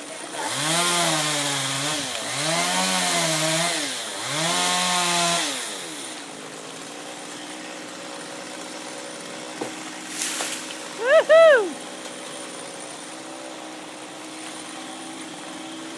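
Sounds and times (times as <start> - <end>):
chainsaw running: 0.0 - 15.9.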